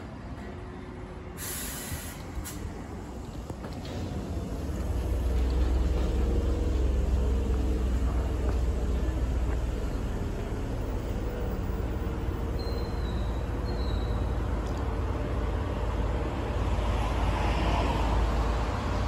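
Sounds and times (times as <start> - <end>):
electric train humming: 2.1 - 17.4.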